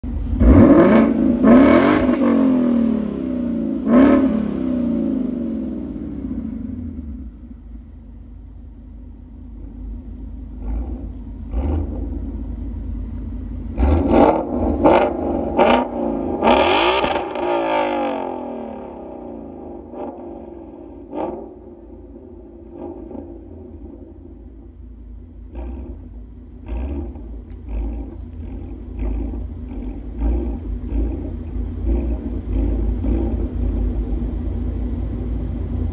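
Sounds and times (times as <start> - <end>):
car engine revving: 0.0 - 8.0, 9.5 - 35.9
car engine idling: 0.0 - 35.9.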